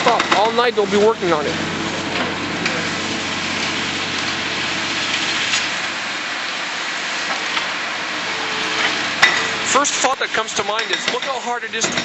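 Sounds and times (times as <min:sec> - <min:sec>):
heavy machinery idling hum: 0:00.0 - 0:10.9.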